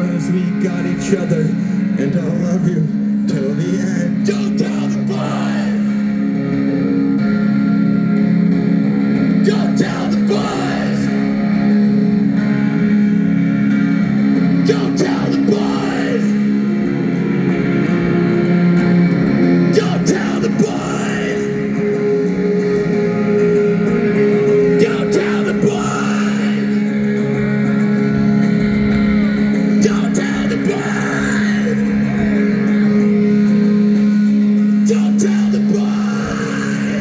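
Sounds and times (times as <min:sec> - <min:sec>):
live guitar-led rock music: 0:00.0 - 0:37.0.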